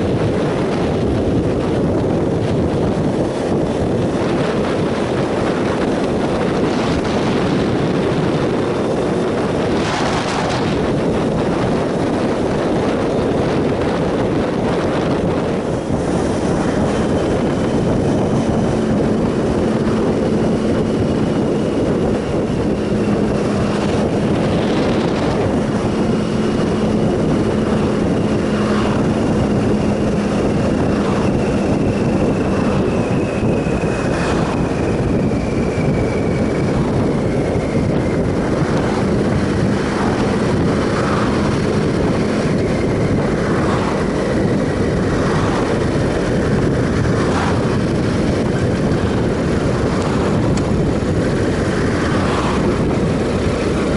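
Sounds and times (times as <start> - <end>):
motorcycle engine running: 0.0 - 53.9
wind rush: 0.0 - 53.9.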